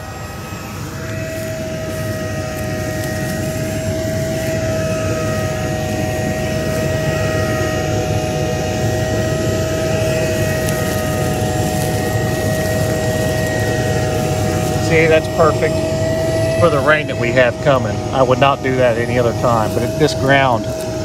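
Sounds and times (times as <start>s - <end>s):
high whine: 0.0s - 21.0s
tractor engine drone: 0.0s - 21.0s.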